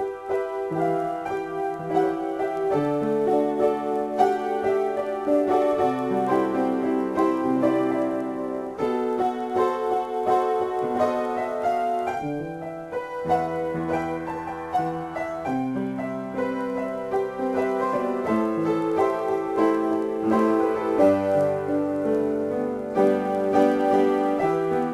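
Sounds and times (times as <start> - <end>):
piano improvisation: 0.0 - 24.9.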